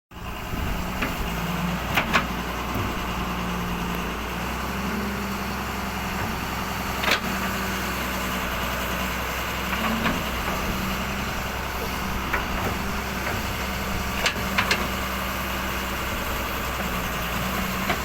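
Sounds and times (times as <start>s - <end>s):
excavator diesel engine running: 0.1s - 18.0s.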